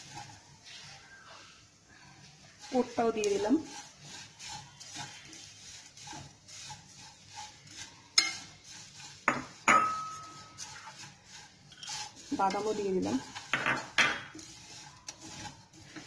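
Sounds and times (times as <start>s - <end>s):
spatula scraping a metal pan: 0.0s - 16.0s.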